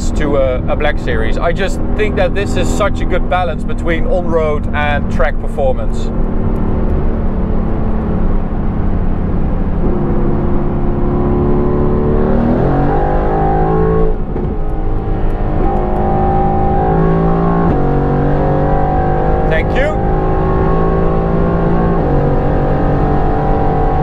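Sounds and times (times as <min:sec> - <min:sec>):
car engine revving at speed: 0:00.0 - 0:24.0.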